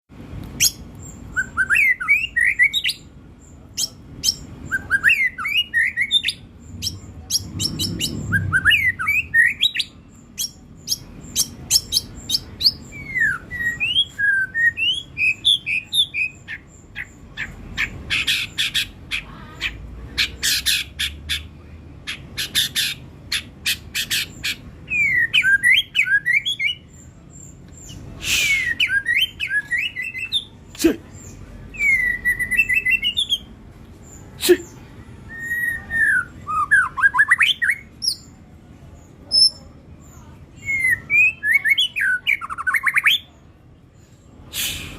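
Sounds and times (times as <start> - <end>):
songbird singing: 0.3 - 44.9.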